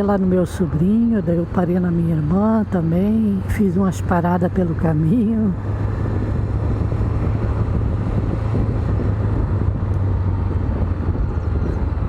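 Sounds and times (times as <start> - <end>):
wind noise on microphone: 0.0 - 12.0.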